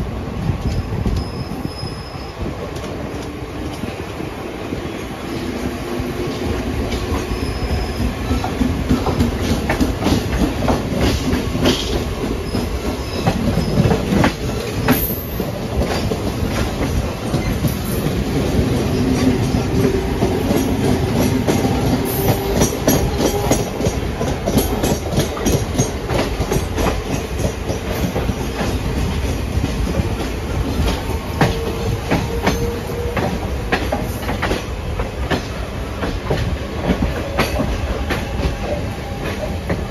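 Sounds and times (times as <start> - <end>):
steady train rumble: 0.0 - 39.9
train wheels clicking over rail joints: 5.3 - 39.9.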